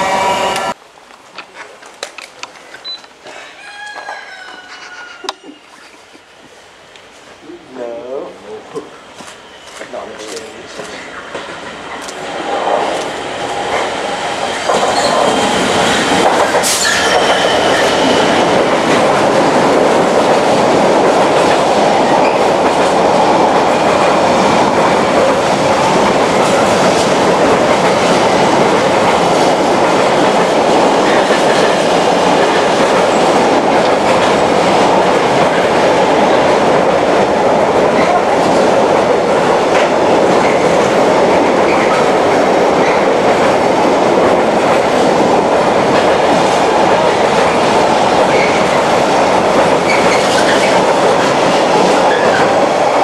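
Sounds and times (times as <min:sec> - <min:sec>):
freight train passing: 0:00.0 - 0:03.3, 0:04.3 - 0:53.0.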